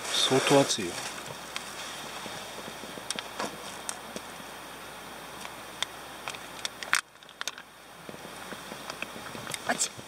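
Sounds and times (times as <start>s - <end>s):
gas stove burning hiss: 0.0s - 7.0s, 7.6s - 10.0s.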